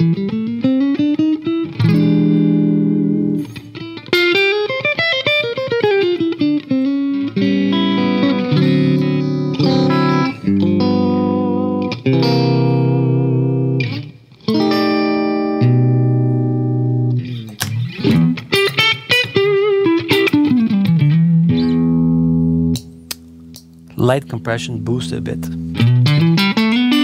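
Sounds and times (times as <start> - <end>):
electric guitar playing: 0.0 - 27.0.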